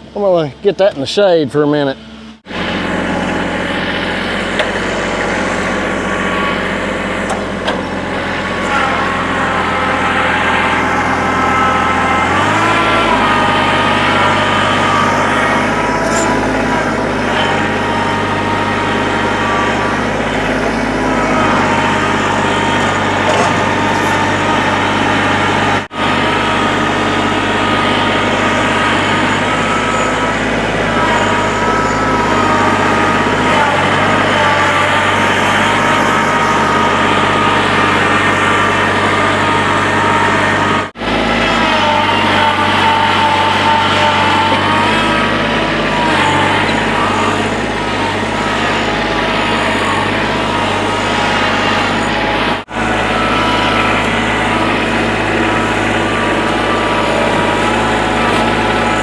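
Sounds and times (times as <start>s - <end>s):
excavator diesel engine running: 0.0s - 59.0s
machine whine: 1.9s - 59.0s.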